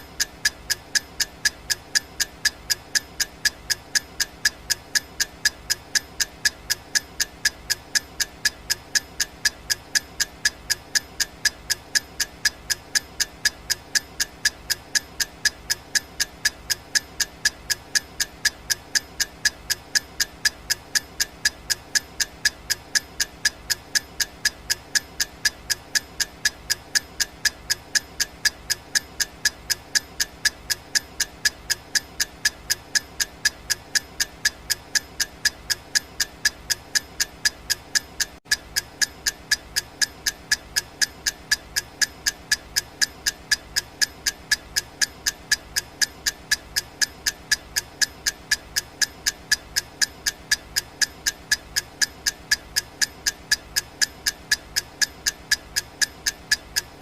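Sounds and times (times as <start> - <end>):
clock ticking: 0.0 - 57.0.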